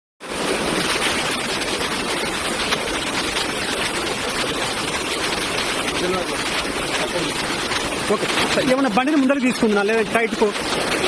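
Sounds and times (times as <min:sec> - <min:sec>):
floodwater rushing: 0:00.2 - 0:11.0.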